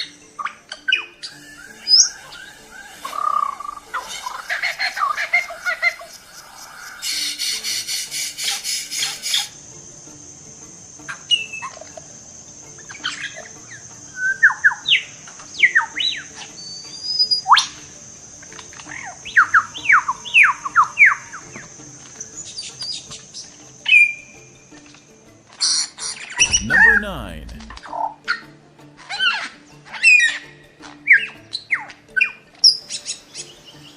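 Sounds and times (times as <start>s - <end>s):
soft background music: 0.0s - 33.9s.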